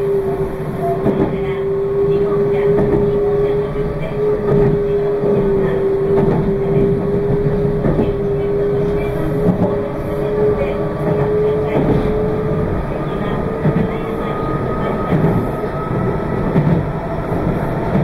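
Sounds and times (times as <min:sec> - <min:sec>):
wheels rumbling on track: 0:00.0 - 0:18.0.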